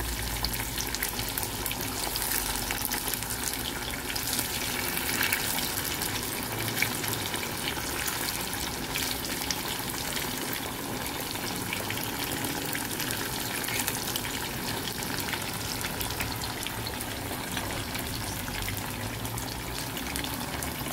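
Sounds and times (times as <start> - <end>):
tofu deep-frying in oil: 0.0 - 20.9.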